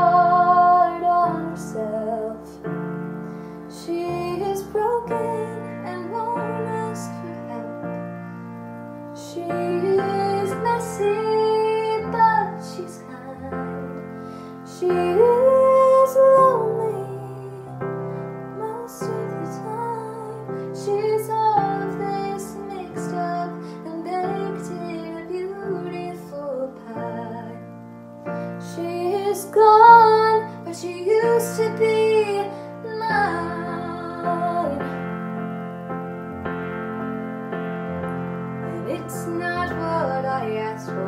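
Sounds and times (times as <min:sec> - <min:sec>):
woman singing a ballad: 0:00.0 - 0:02.9, 0:03.7 - 0:08.3, 0:09.2 - 0:35.3, 0:38.6 - 0:41.0
piano accompaniment: 0:00.0 - 0:41.0.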